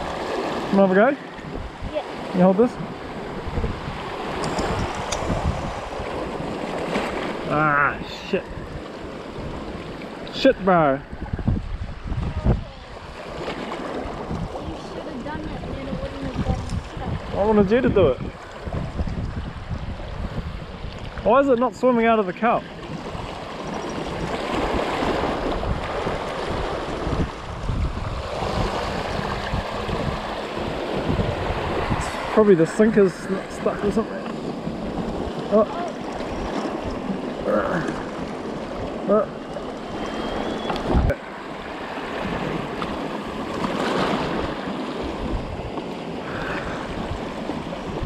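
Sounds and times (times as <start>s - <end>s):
small waves surging over rocks: 0.0s - 48.0s
wind rumbling on microphone: 0.0s - 48.0s.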